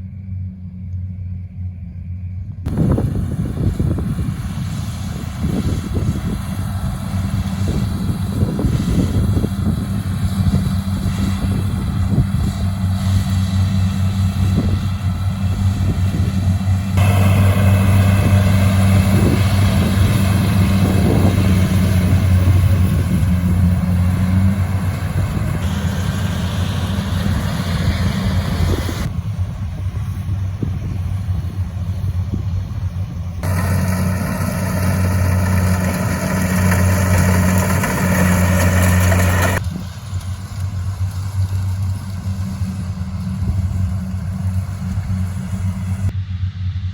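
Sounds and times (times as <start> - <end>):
engine humming: 0.0 - 46.9.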